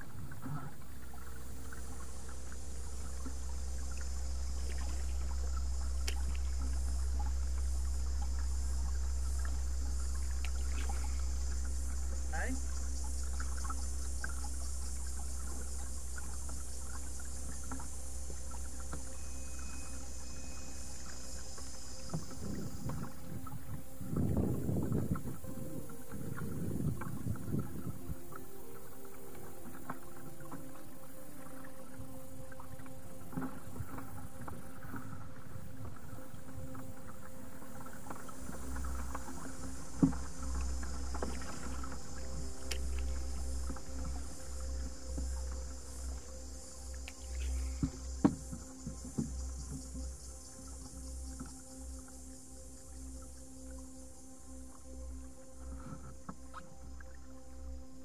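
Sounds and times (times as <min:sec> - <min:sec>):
low wind rumble on microphone: 0:00.0 - 0:52.5
paddle drips and splashes: 0:00.0 - 0:58.0
steady high hiss: 0:00.0 - 0:58.0.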